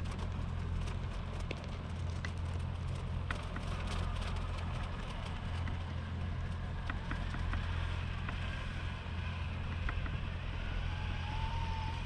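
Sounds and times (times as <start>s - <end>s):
monster truck engine drone: 0.0s - 12.0s.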